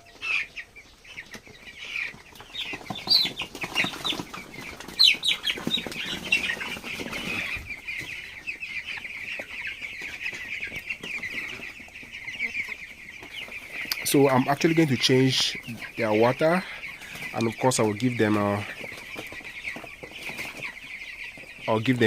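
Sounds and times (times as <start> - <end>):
chicks peeping and chirping: 0.0 - 22.0
birds scuffling and wing-flapping: 0.1 - 22.0.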